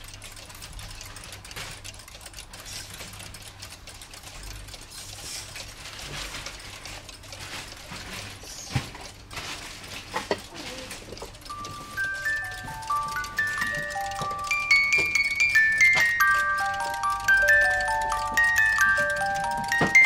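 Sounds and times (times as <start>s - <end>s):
clocks ticking: 0.0s - 20.0s.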